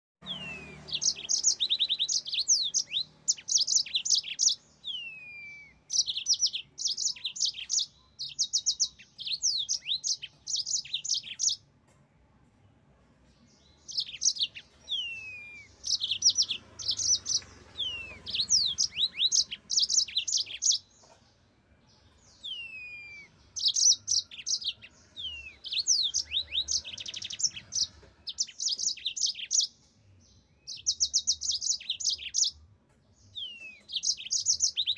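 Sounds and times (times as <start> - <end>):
canary singing: 0.2 - 11.7, 13.6 - 21.2, 22.0 - 34.9.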